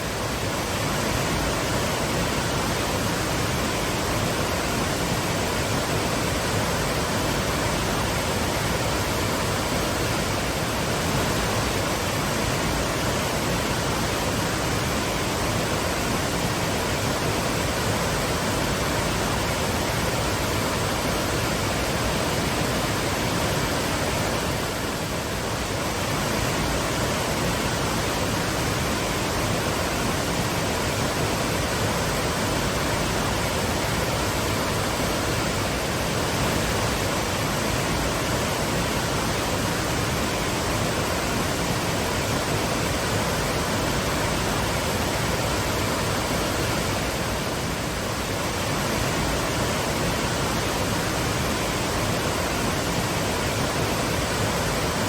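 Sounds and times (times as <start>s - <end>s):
waterfalls rushing: 0.0s - 55.0s.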